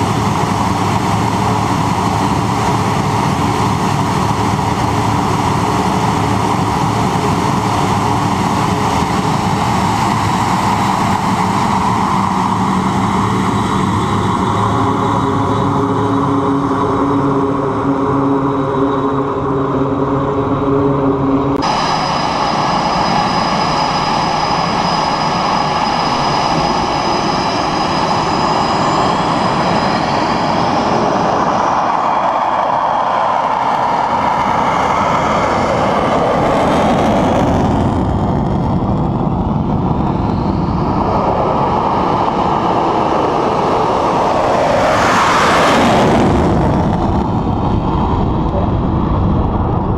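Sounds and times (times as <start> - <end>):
jet engine whine: 0.0 - 49.9
jet engines roaring: 0.0 - 49.9.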